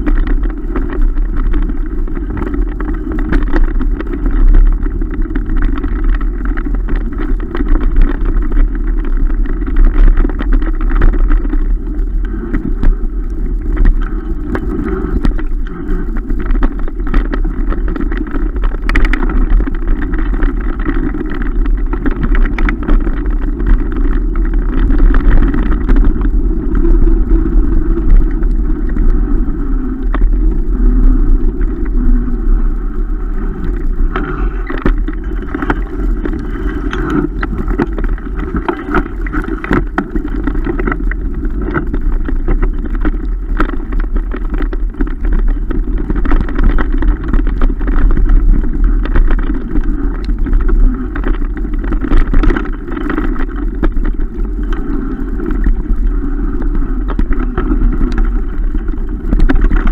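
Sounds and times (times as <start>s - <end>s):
bike riding rumble: 0.0s - 59.9s
wind buffeting microphone: 0.0s - 59.9s.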